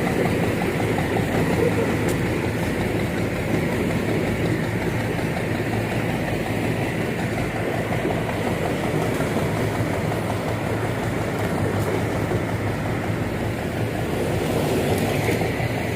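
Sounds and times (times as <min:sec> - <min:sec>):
heavy engine droning: 0:00.0 - 0:15.9.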